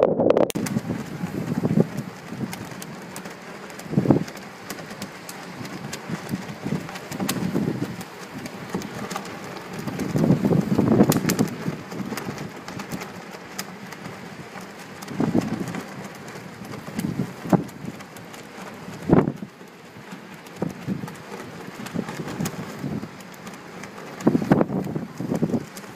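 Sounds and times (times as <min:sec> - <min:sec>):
blizzard wind gusting: 0:00.0 - 0:25.9.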